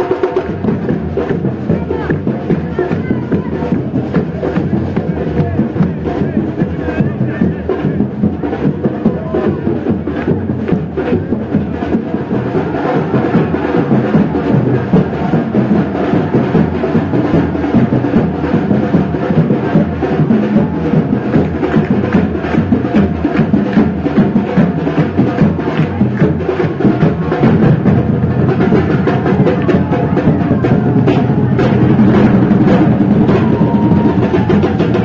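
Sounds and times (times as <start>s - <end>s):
music with fast dense drumming: 0.0s - 35.0s.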